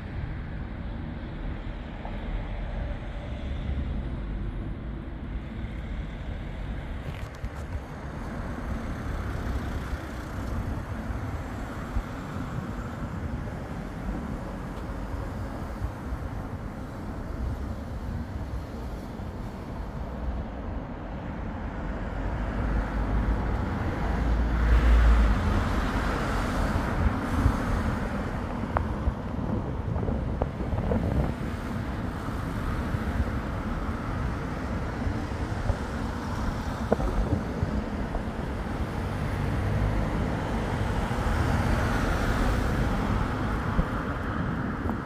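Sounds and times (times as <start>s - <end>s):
road traffic: 0.0s - 45.0s
wind rumbling on microphone: 0.0s - 45.0s.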